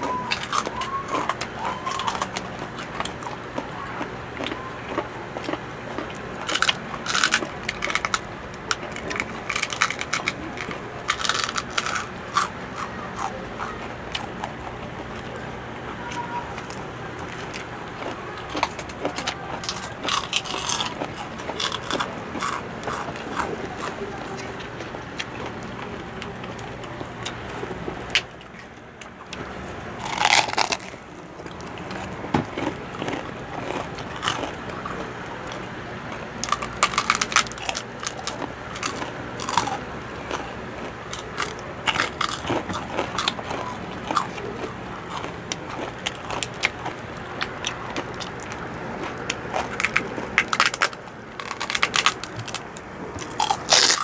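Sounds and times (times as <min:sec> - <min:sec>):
crackly crunching of pork rinds: 0:00.0 - 0:54.0
quiet chewing: 0:00.0 - 0:54.0.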